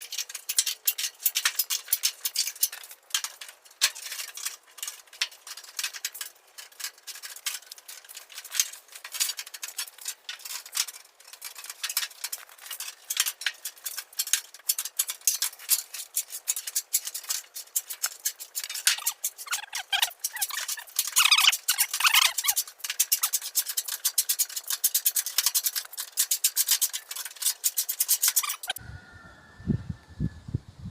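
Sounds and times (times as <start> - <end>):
sheet metal clicking and crinkling: 0.0 - 28.8.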